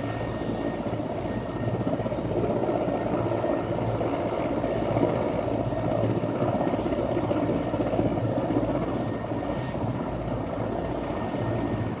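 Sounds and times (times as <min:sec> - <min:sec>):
helicopter rotor beating: 0:00.0 - 0:12.0.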